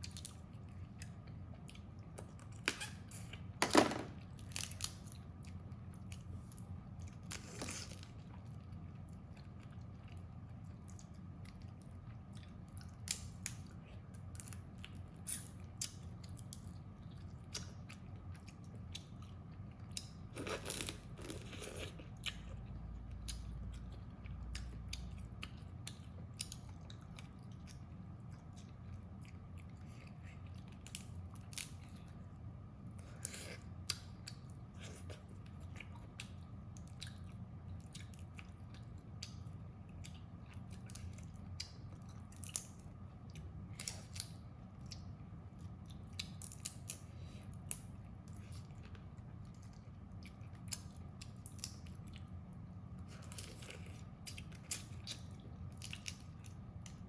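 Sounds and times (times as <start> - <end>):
steady low hum: 0.0 - 57.0
crab shells cracking and chewing: 4.2 - 32.2, 33.0 - 57.0.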